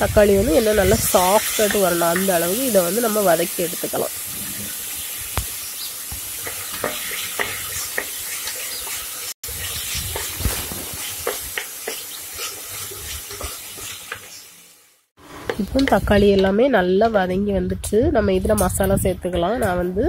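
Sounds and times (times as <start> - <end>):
vegetables sizzling in hot oil: 0.0 - 16.2.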